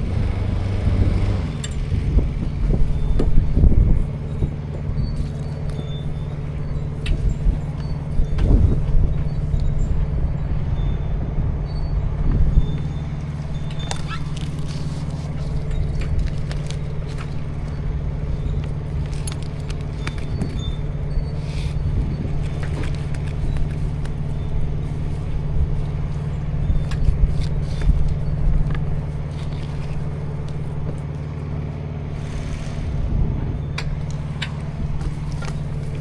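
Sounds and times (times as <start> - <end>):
engine droning: 0.0 - 36.0.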